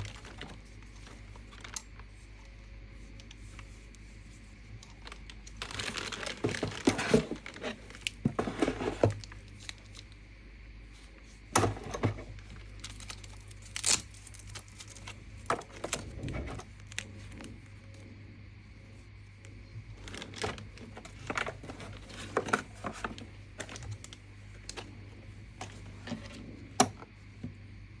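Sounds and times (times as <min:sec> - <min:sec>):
wrapping crinkling and rustling: 0:00.0 - 0:10.2, 0:10.9 - 0:18.1, 0:19.8 - 0:26.6.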